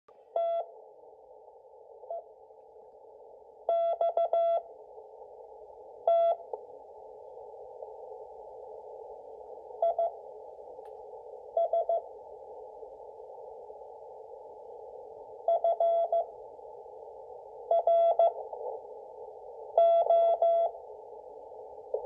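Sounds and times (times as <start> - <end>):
receiver hiss: 0.2 - 22.0.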